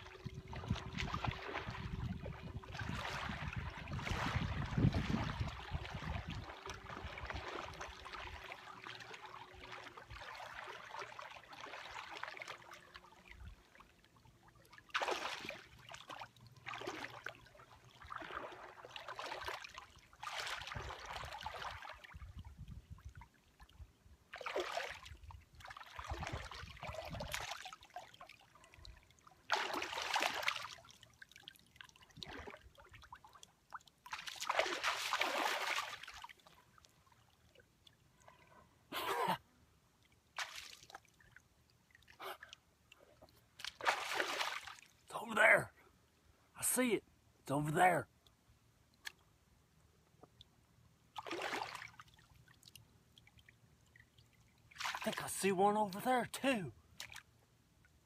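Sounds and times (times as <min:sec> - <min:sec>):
shallow water splashing: 0:00.0 - 0:38.7, 0:40.0 - 0:45.2, 0:51.1 - 0:55.5.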